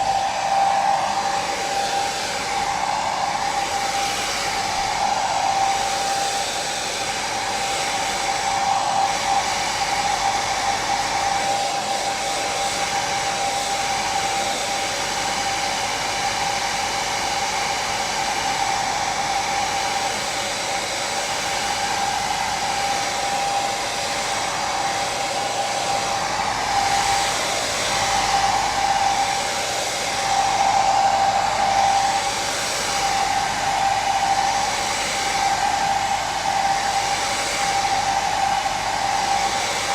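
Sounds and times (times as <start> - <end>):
electric hair dryer running: 0.0 - 39.9.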